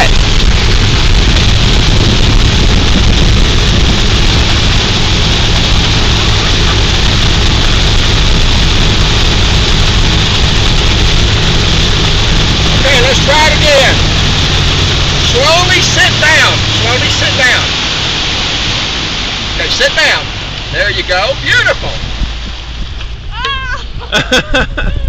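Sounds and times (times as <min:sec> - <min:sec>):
motorboat engine hum: 0:00.0 - 0:25.0
water rushing and spraying: 0:00.0 - 0:25.0.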